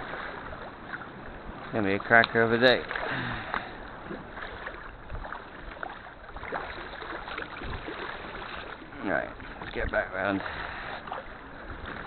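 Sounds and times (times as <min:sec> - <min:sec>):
water lapping around kayak: 0:00.0 - 0:12.0.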